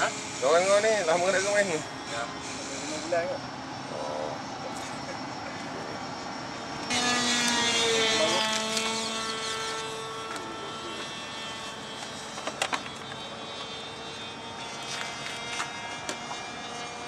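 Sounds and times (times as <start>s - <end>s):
model airplane motor whine: 0.0s - 17.0s.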